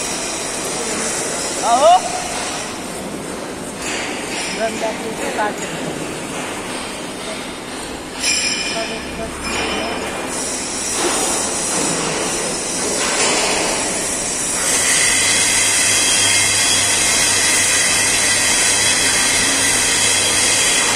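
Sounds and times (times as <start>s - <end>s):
welding rig hiss and rumble: 0.0s - 20.9s.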